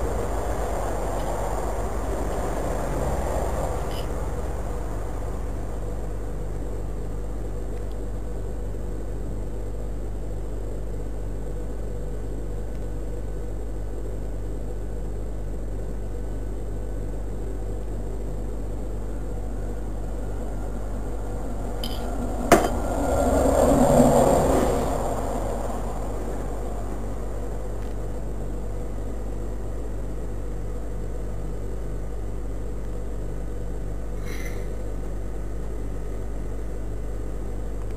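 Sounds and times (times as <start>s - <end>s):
low hum and hiss: 0.0s - 37.9s.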